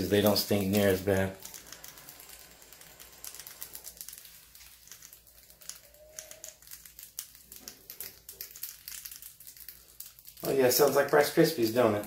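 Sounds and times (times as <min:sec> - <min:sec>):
mice crunching potato chips: 0:00.0 - 0:12.0.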